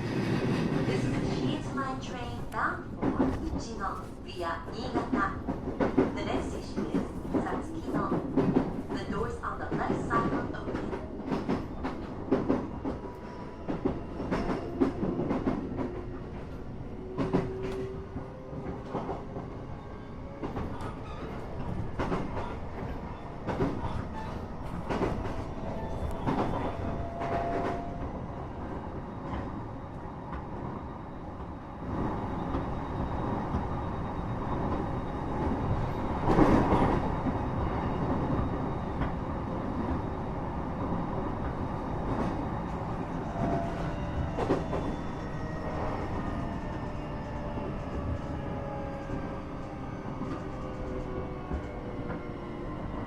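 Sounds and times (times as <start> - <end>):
train running rumble: 0.0 - 53.0.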